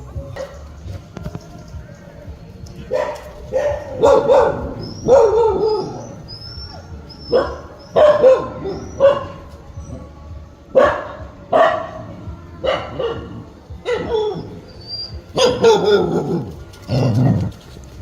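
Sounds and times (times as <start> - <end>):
dogs barking and yipping: 0.0 - 1.7, 2.6 - 18.0.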